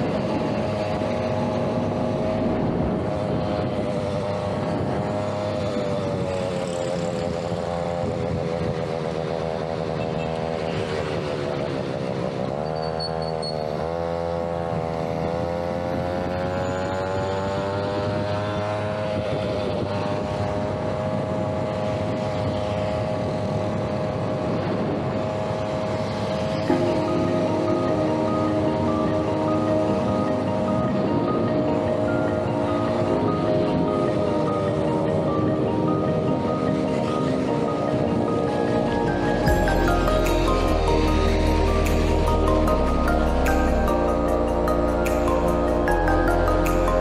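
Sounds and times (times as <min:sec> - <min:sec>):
two-stroke scooter engine running: 0:00.0 - 0:47.0.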